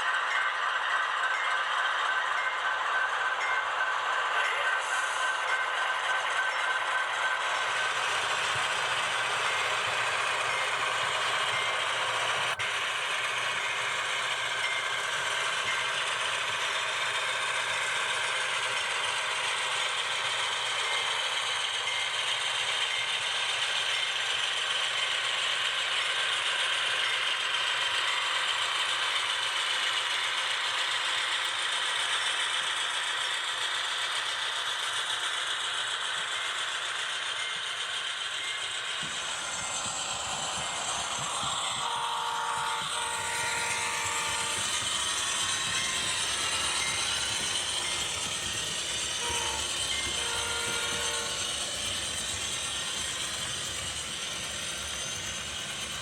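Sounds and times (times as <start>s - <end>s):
model trains running on track: 0.0s - 56.0s.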